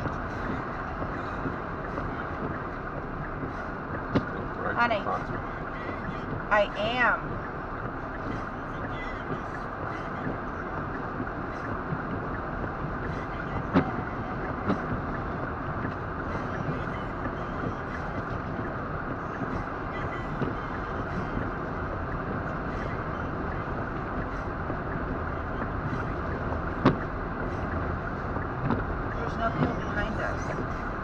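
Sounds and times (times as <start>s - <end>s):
road and wind noise inside car: 0.0s - 31.0s.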